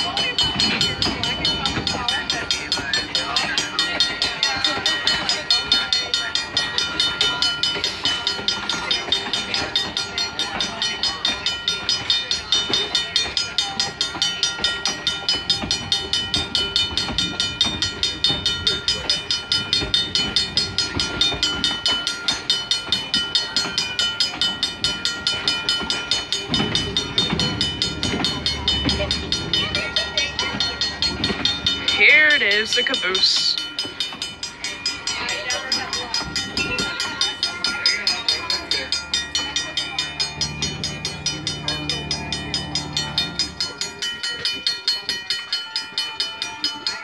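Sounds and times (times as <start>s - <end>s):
train cars rolling past: 0.0s - 46.9s
railroad crossing bell ringing: 0.0s - 47.0s.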